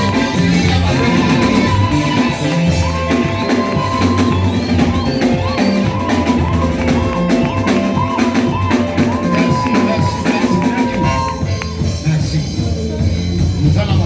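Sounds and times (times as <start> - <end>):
band playing praise music: 0.0 - 14.0.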